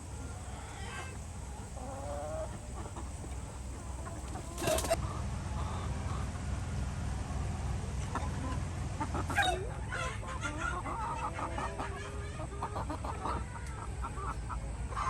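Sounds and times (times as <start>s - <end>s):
chickens clucking: 0.0s - 6.4s, 7.3s - 15.0s.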